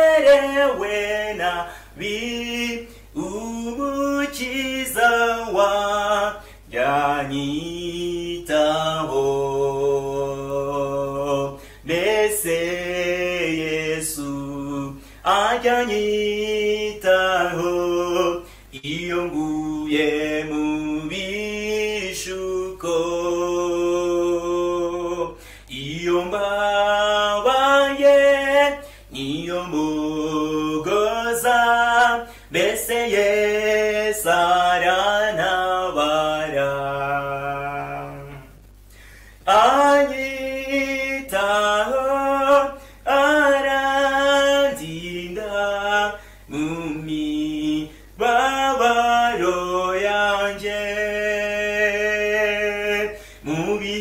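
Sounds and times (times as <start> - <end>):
man singing a hymn unaccompanied: 0.0 - 54.0.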